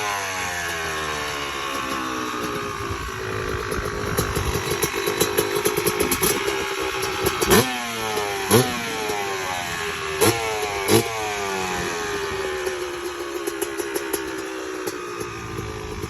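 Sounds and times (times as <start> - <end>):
dirt bike engine idling and revving: 0.0 - 16.0.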